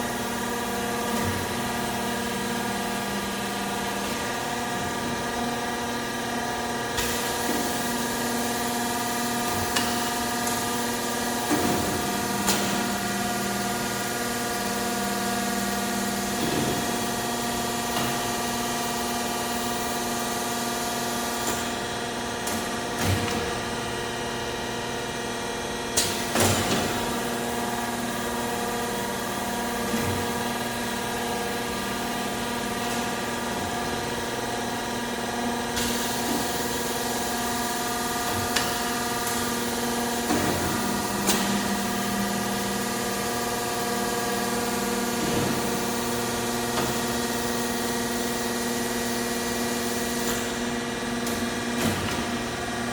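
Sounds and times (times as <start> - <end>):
machine humming: 0.0 - 21.5, 26.0 - 52.9.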